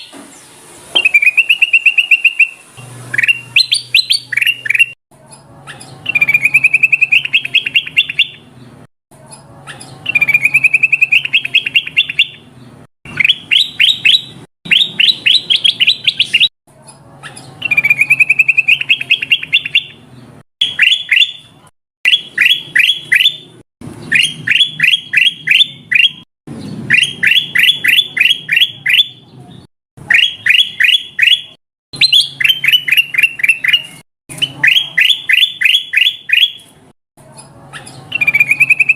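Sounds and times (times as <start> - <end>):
bird rapid chirping song: 0.0 - 38.9.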